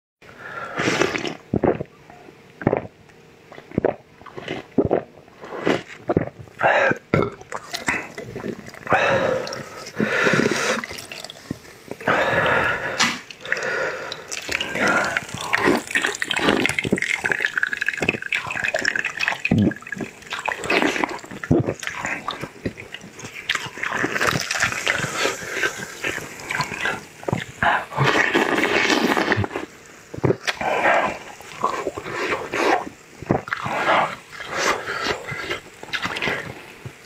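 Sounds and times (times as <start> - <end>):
wet chewing and slurping: 0.8 - 37.0.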